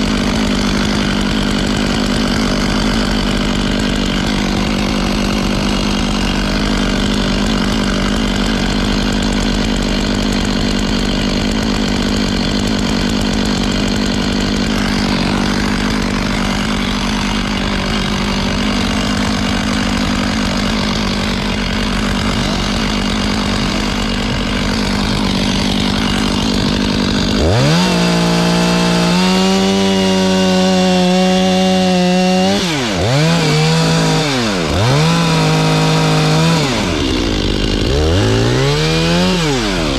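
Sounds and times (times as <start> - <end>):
chainsaw revving: 0.0 - 39.9
chainsaw running: 0.0 - 39.9.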